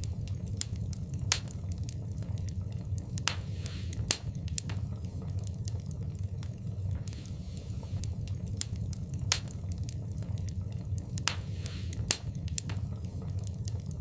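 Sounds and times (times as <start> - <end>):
fire hissing: 0.0 - 14.0
wood fire crackling: 0.0 - 14.0.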